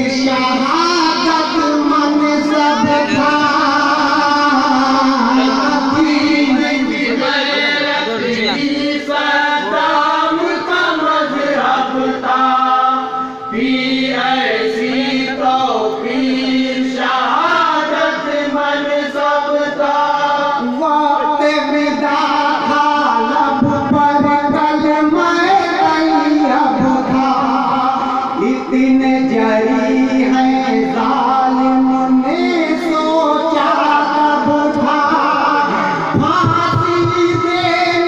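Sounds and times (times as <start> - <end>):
man singing into a microphone: 0.0 - 38.0.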